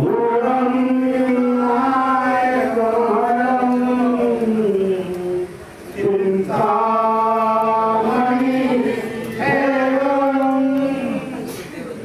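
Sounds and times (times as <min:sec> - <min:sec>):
man chanting into a microphone: 0:00.0 - 0:11.5.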